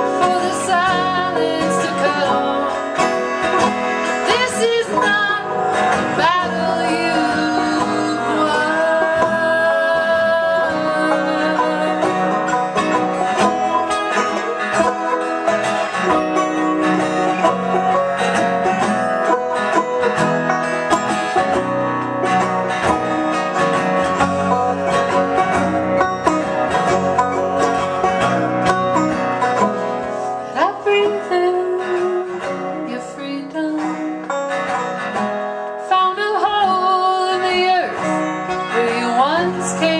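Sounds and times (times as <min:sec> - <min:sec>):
live trio playing a song: 0:00.0 - 0:39.9
plucked-string picking: 0:00.0 - 0:39.9.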